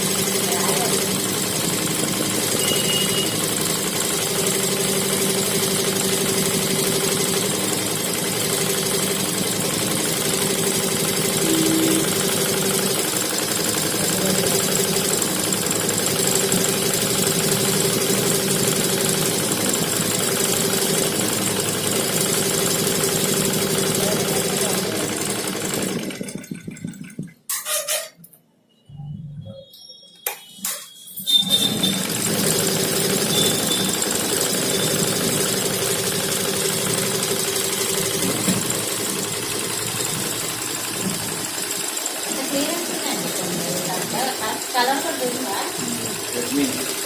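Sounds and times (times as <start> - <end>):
embroidery machine running: 0.0 - 27.3, 31.3 - 47.0.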